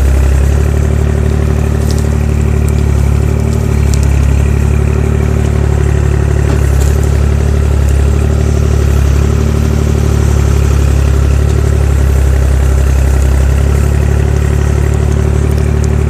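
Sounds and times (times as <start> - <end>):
backhoe bucket digging soil: 0.0 - 16.0
diesel engine running: 0.0 - 16.0.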